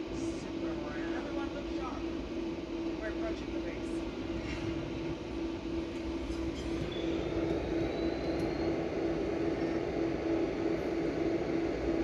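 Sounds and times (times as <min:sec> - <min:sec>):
cooling fan noise: 0:00.0 - 0:12.0
pulsing electrical hum: 0:00.0 - 0:12.0.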